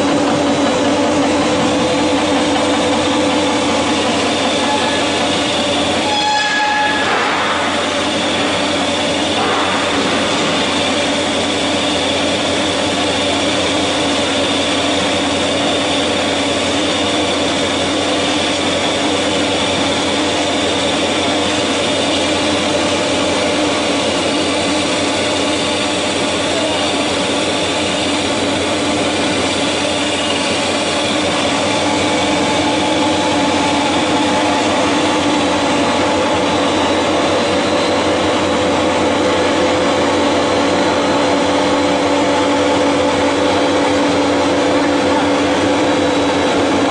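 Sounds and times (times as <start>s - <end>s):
high machine whine: 0.0s - 46.9s
machine hum: 0.0s - 46.9s.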